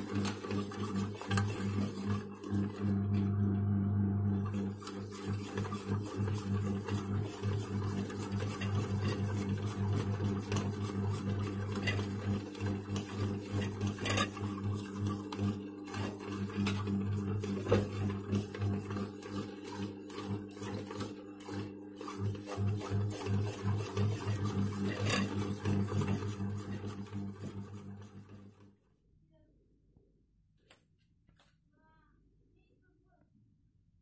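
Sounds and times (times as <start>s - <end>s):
bread maker motor humming: 0.0s - 28.7s.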